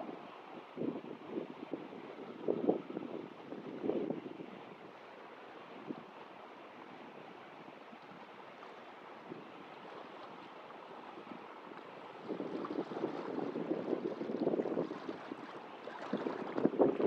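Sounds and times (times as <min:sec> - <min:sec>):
water: 0:00.0 - 0:17.0.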